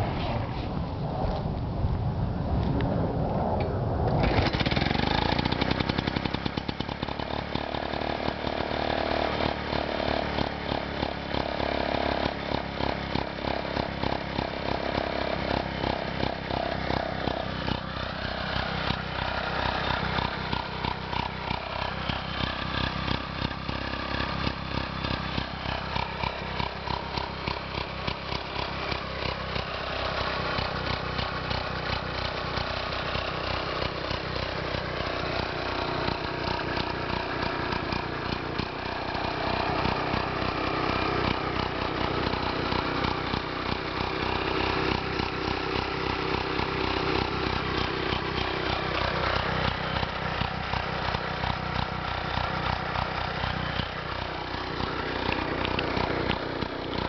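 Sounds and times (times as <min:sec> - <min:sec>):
small mower engine running: 0:04.1 - 0:57.0.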